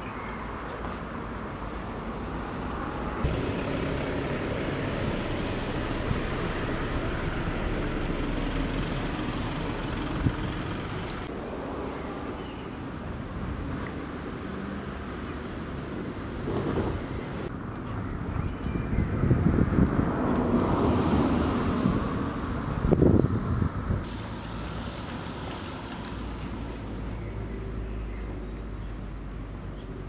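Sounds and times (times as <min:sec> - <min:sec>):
distant road traffic: 0:00.0 - 0:30.0.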